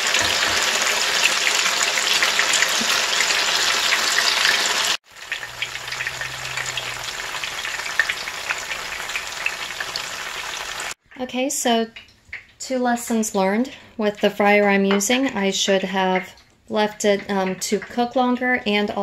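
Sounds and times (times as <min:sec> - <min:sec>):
batter deep-frying in hot oil: 0:00.0 - 0:19.0.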